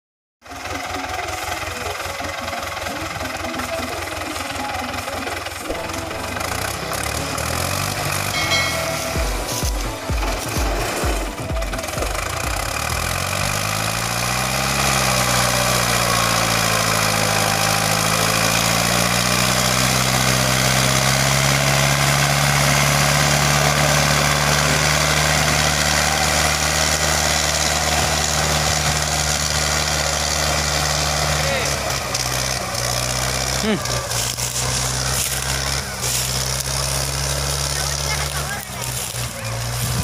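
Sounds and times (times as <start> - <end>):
tractor diesel engine revving: 0.4 - 40.0.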